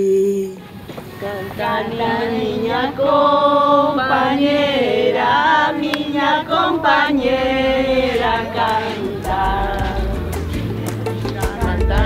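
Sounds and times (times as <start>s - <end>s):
women singing without accompaniment: 0.0s - 10.5s, 11.2s - 12.0s.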